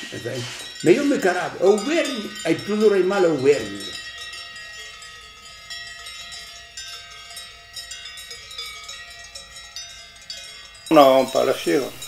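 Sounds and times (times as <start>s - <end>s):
cowbells clanking: 0.0s - 12.0s.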